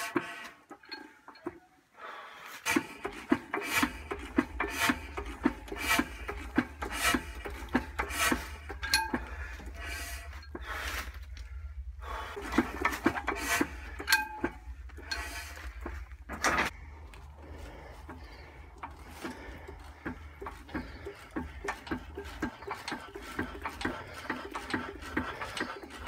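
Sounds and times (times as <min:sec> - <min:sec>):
engine hand crank rasping: 0:00.0 - 0:01.6, 0:02.6 - 0:26.0
steady low hum: 0:02.7 - 0:26.0.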